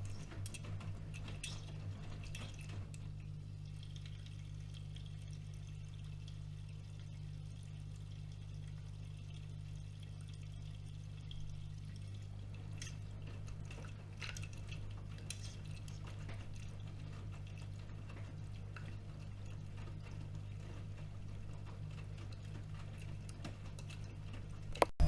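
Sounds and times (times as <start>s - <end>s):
water sloshing in washing machine: 0.0s - 24.6s.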